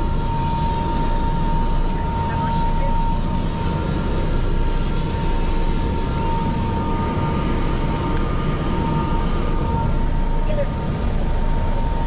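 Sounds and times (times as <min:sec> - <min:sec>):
helicopter cabin drone: 0:00.0 - 0:12.0
high whine: 0:00.0 - 0:12.0.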